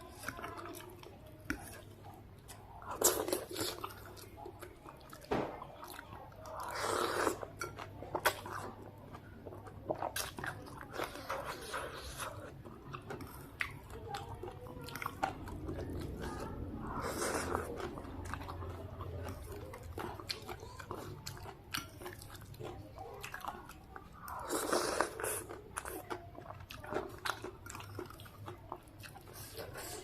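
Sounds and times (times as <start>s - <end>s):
person chewing soup: 0.0s - 30.0s.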